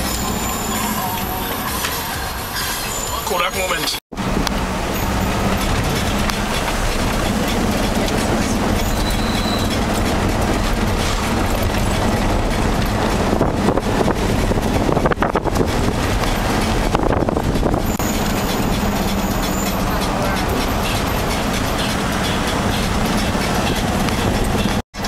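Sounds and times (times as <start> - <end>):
ride vehicle rumble: 0.0 - 25.0.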